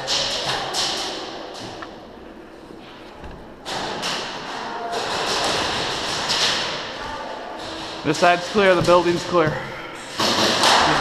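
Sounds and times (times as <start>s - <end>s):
footsteps: 0.0s - 11.0s.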